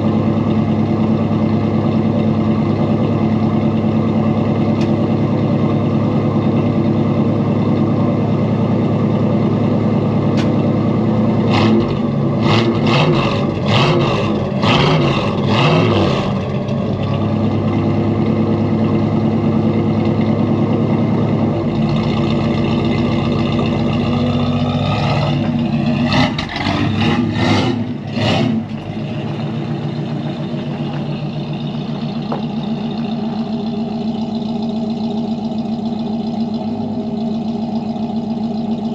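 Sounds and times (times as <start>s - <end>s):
engine revving and idling: 0.0s - 38.9s.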